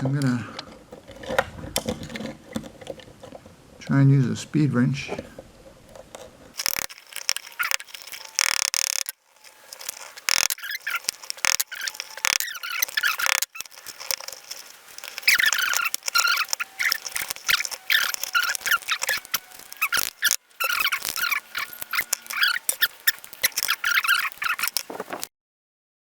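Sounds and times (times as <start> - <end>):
high squeaks: 0.0 - 25.3
metal scraping: 0.0 - 25.3.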